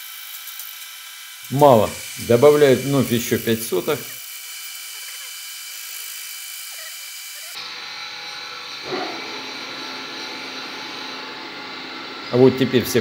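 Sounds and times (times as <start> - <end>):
boring machine cutter whine: 0.0 - 13.0.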